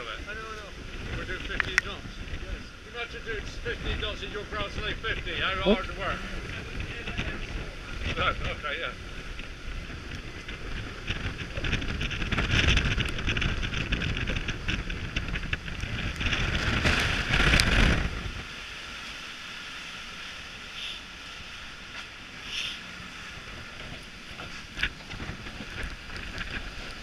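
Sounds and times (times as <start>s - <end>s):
wind buffeting microphone: 0.0s - 19.9s, 20.5s - 27.0s
water rushing past hulls: 0.0s - 27.0s.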